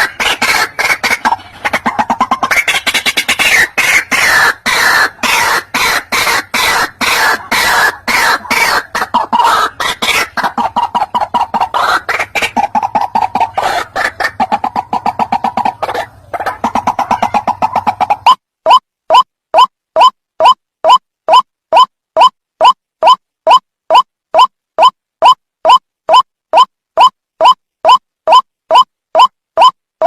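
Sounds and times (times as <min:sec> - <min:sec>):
bird harsh clucking calls: 0:00.0 - 0:29.8.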